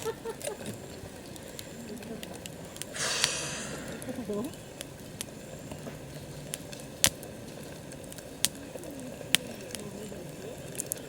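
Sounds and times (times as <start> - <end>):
campfire crackling: 0.0 - 11.0
sharp pops from burning wood: 0.0 - 11.0.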